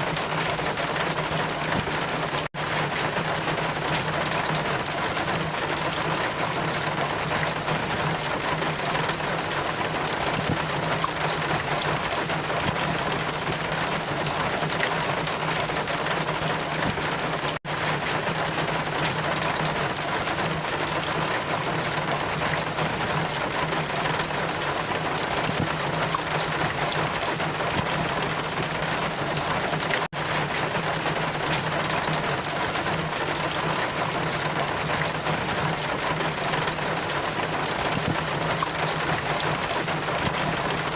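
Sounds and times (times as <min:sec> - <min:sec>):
rain and wind: 0:00.0 - 0:40.9.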